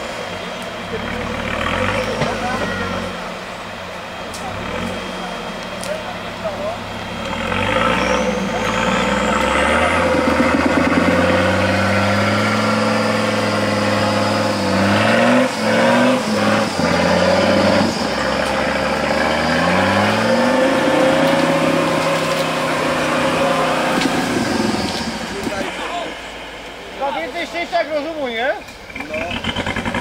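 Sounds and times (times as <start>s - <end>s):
engine revving under load: 0.0s - 30.0s.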